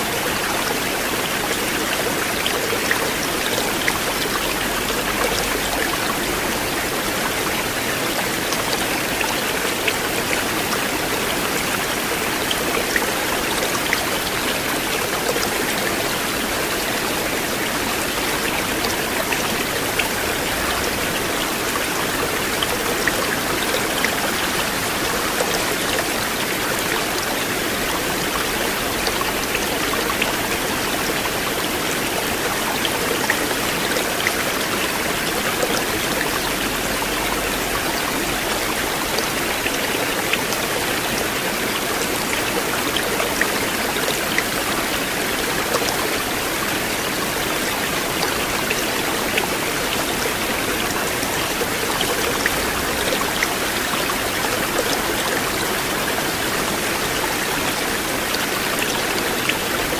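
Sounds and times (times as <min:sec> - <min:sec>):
river water rushing and babbling: 0:00.0 - 0:59.9.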